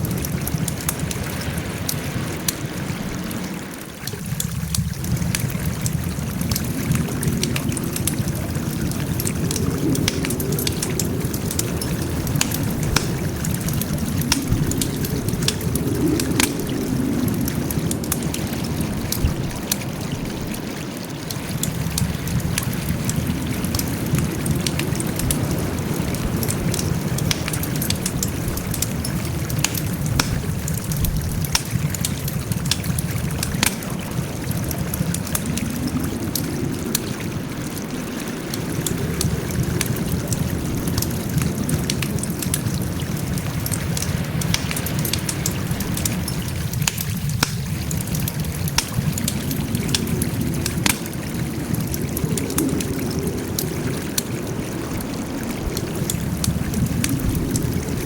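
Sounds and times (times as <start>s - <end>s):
fire snapping and popping: 0.0s - 58.0s
wood fire crackling: 0.0s - 58.0s.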